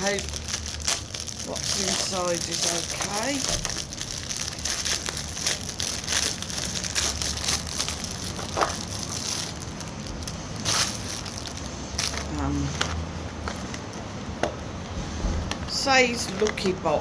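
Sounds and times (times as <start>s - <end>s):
packaging crinkling: 0.0s - 14.1s.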